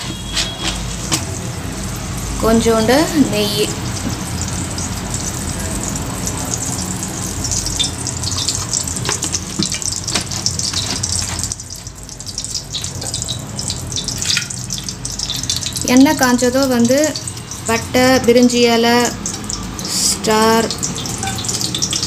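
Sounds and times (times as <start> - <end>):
oil sizzling in a pot: 0.0 - 22.0.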